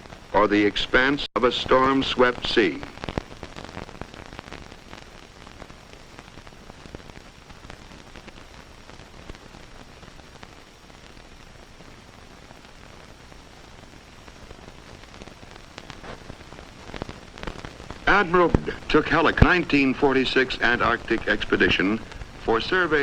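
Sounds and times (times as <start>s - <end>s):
crackles and pops: 0.0s - 23.0s
film soundtrack surface hiss: 0.0s - 23.0s.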